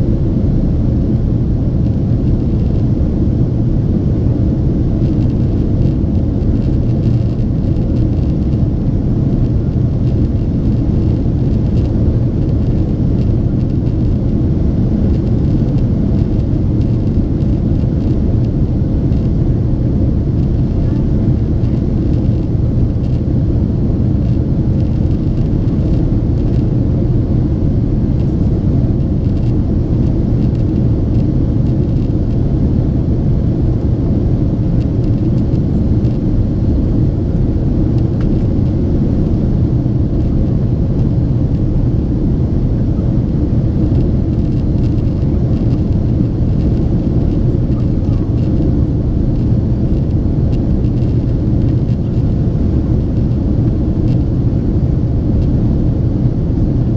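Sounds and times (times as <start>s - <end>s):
jet engine and airflow rumble: 0.0s - 56.9s.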